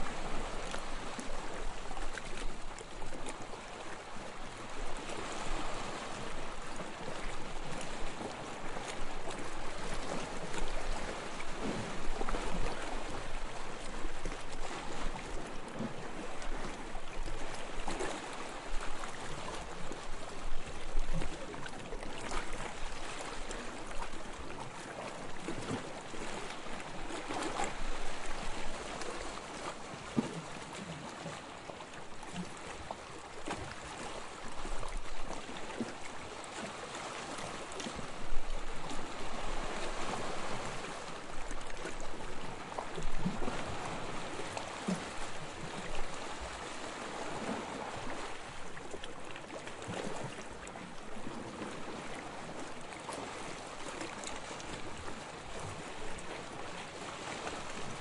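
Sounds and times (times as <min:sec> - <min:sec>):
sea water lapping and splashing: 0:00.0 - 0:58.0.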